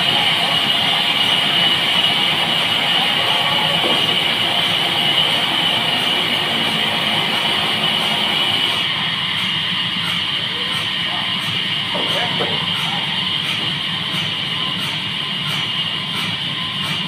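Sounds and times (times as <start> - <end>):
bandsaw whine: 0.0 - 17.0.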